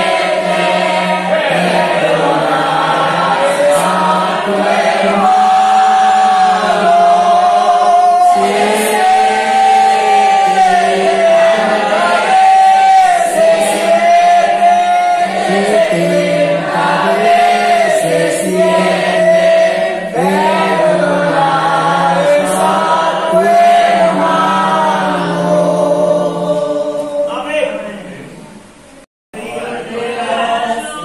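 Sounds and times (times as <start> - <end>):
congregation singing: 0.0 - 31.0.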